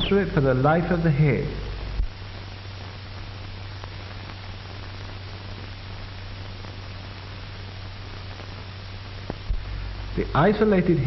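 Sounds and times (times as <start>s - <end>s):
film soundtrack hiss and hum: 0.0s - 11.0s.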